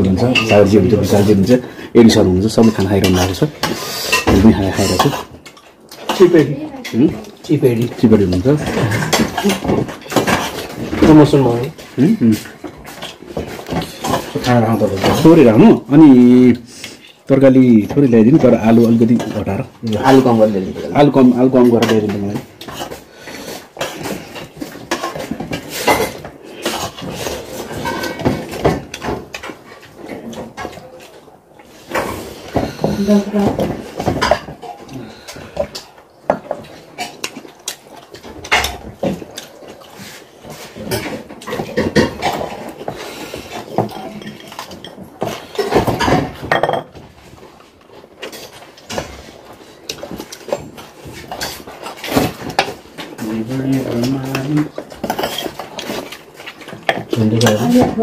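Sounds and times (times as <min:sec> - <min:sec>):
plates and bowls clinking: 0:00.0 - 0:58.0.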